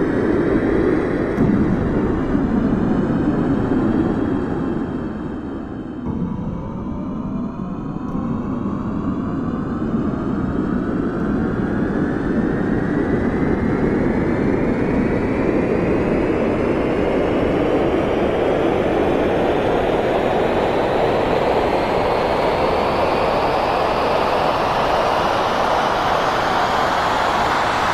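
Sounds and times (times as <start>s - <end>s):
aeroplane engine rush: 0.0s - 27.9s.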